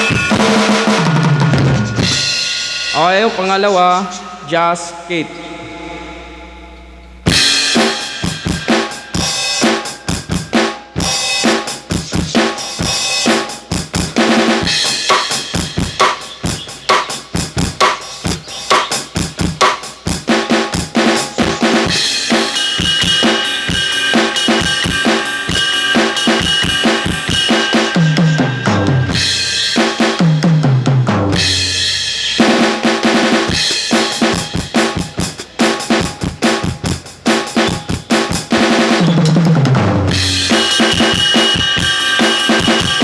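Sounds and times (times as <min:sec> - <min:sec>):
electronic drum groove: 0:00.0 - 0:04.0, 0:07.3 - 0:43.0.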